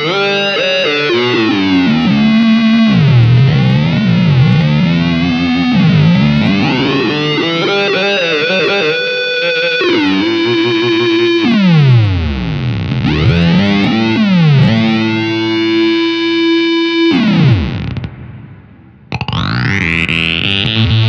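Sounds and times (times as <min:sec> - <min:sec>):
distorted synth guitar: 0:00.0 - 0:21.0.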